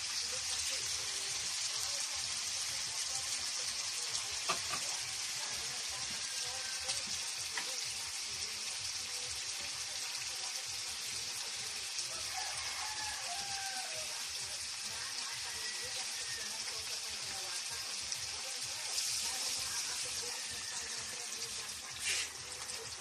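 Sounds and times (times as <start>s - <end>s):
shrimp sizzling in oil: 0.0s - 23.0s.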